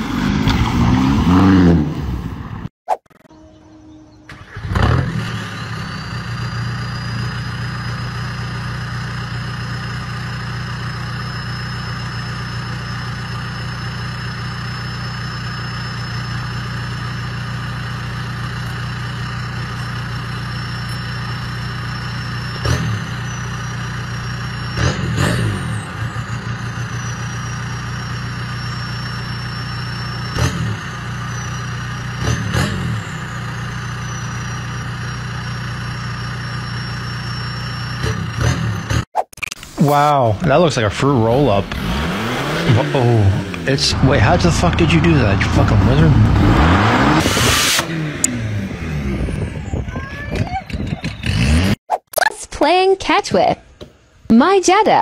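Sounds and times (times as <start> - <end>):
diesel engine idling and revving: 0.0 - 2.7, 3.6 - 39.1, 39.7 - 51.8.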